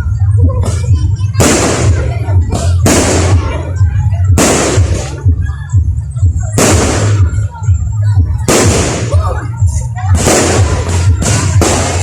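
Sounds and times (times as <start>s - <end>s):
bass-heavy music: 0.0s - 12.0s.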